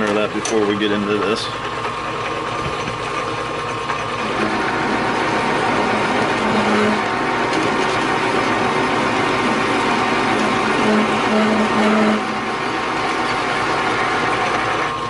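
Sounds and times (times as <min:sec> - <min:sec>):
metal lathe cutting: 0:00.0 - 0:15.0.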